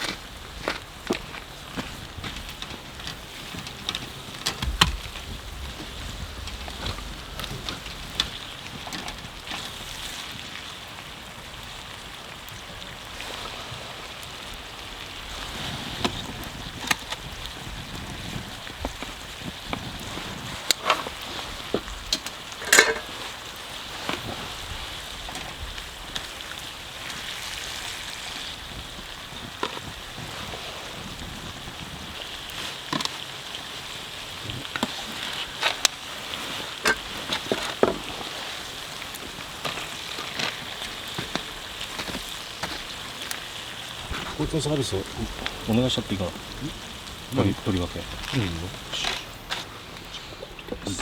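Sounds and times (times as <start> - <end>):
burning wood crackling and popping: 0.0 - 51.0
hiss of bonfire flames: 0.0 - 51.0.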